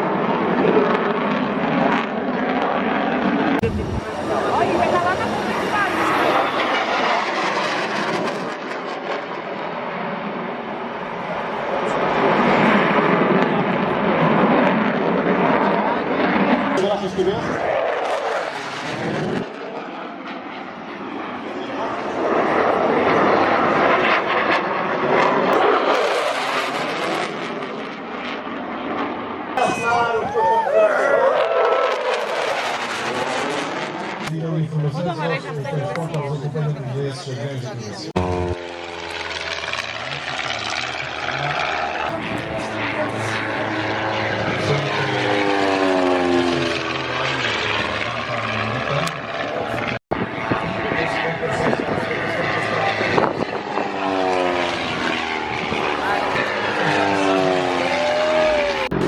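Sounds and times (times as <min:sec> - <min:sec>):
airplane engine flying past: 0:00.0 - 0:59.0.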